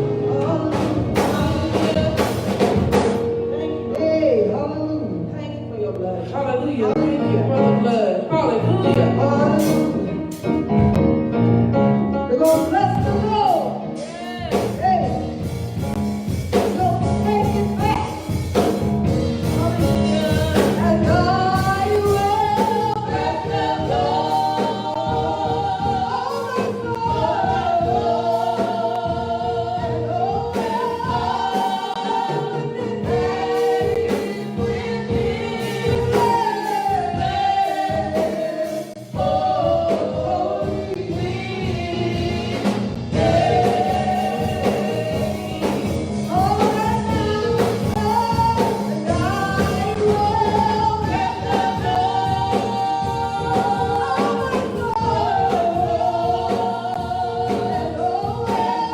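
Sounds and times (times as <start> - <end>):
gospel singing by several voices: 0.0 - 58.9.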